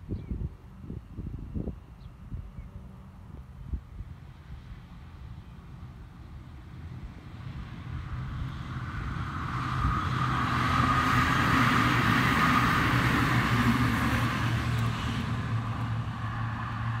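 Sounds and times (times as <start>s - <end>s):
railcar rumbling on rails: 0.6s - 17.0s.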